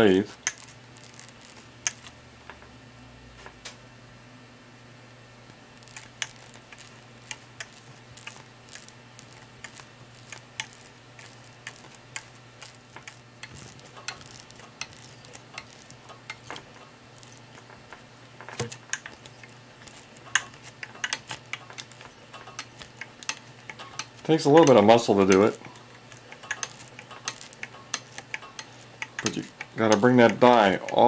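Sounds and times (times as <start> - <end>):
thread-cutting die clicking on metal: 5.8 - 31.0.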